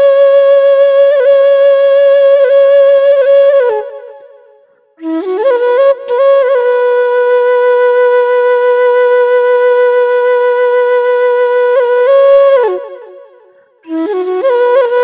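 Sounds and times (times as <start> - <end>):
flute melody: 0.0 - 15.0.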